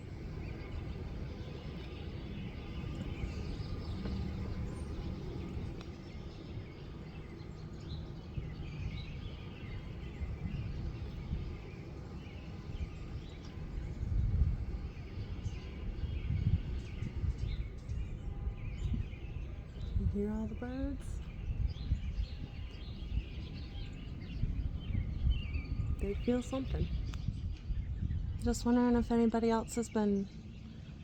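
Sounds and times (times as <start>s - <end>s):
low background rumble: 0.0s - 31.0s
small birds chirping: 0.0s - 31.0s.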